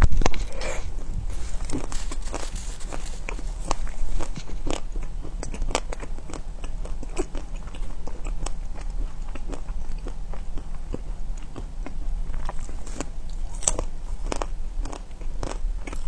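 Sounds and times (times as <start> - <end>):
chewing crunchy ice cream bar: 0.2 - 16.0.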